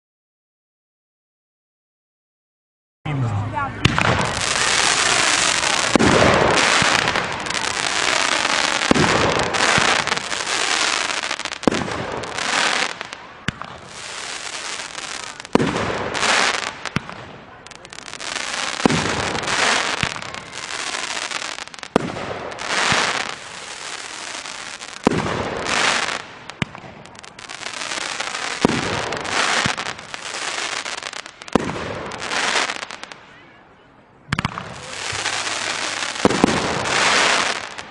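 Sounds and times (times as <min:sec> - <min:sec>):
firework crackling: 0:03.2 - 0:33.3, 0:34.3 - 0:37.9
firework shots bursting: 0:03.8 - 0:33.2, 0:34.3 - 0:37.9.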